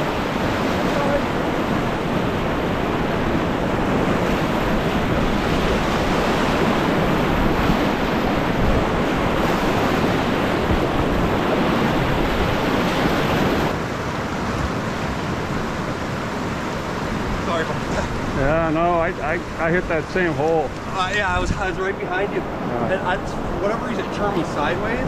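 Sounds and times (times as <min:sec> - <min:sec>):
river rushing: 0:00.0 - 0:25.0
whitewater rapids roaring: 0:00.0 - 0:25.0.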